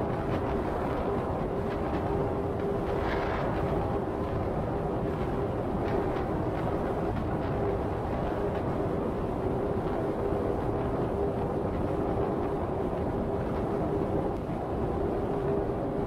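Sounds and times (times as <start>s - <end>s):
constant low hum: 0.0s - 16.0s
wind noise: 0.0s - 16.0s.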